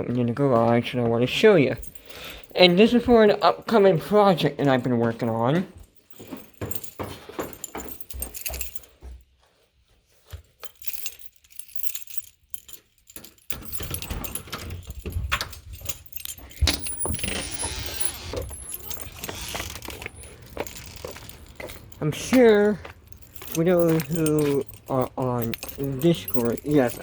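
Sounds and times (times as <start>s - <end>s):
keys jangling: 1.5s - 9.3s, 10.3s - 27.0s.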